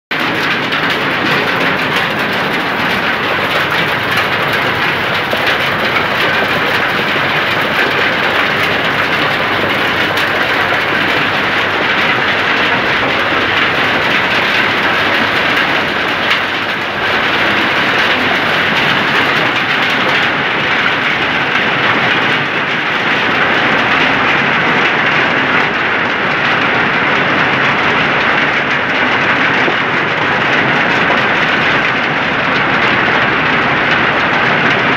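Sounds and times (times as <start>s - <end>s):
hail pelting pavement: 0.1s - 34.9s.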